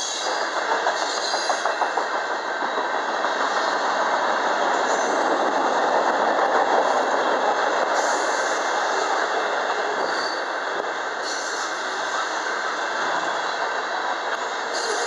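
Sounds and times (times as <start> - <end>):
freight cars rumbling on rail: 0.0 - 15.0.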